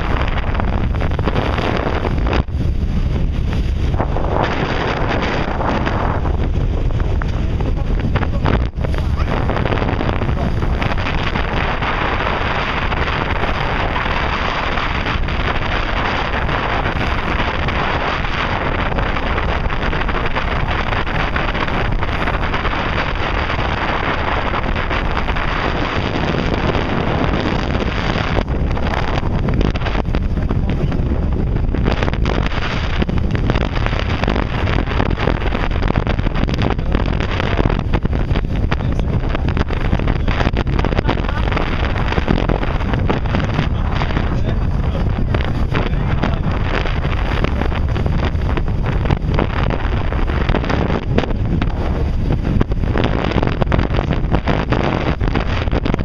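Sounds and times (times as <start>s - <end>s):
boat engine running: 0.0s - 56.0s
water rushing: 0.0s - 56.0s
wind buffeting microphone: 0.0s - 56.0s.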